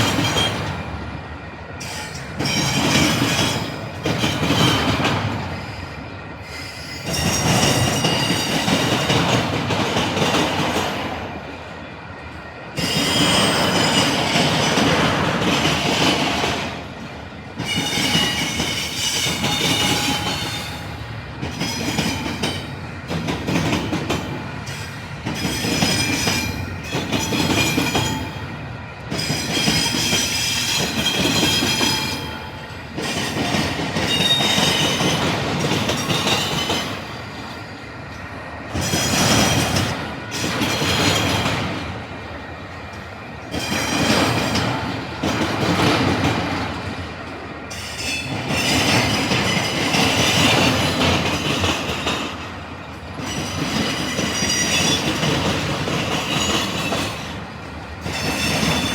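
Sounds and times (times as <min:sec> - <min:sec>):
train wheels clattering over crossing: 0:00.0 - 0:01.2, 0:01.8 - 0:11.7, 0:12.3 - 0:58.9
steel wheels squealing on rails: 0:00.0 - 0:58.9.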